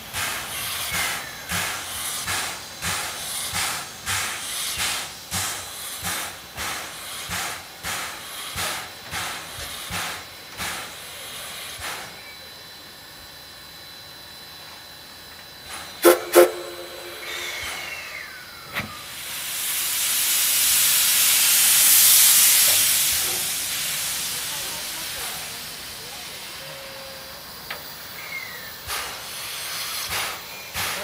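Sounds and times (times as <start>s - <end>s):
locomotive steam hiss: 0.0s - 31.0s.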